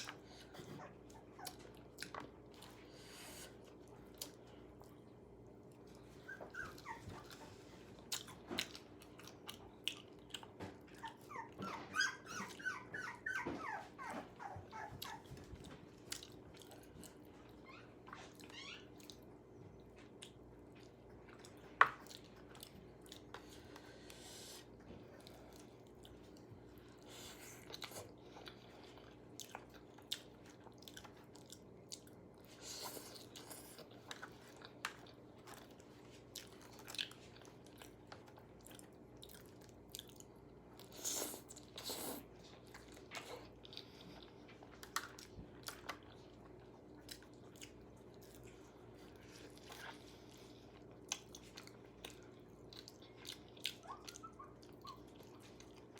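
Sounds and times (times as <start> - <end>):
wet chewing: 1.1 - 11.5, 12.4 - 17.5, 19.9 - 55.9.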